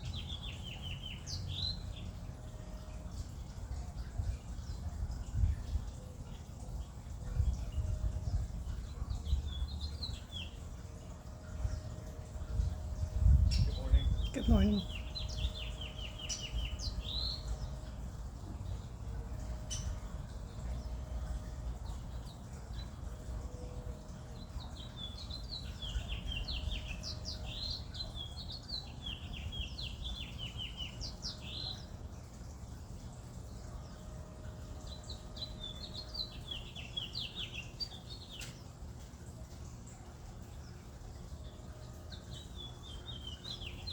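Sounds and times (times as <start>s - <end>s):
low background rumble: 0.0s - 43.9s
songbird chirping: 0.0s - 43.9s.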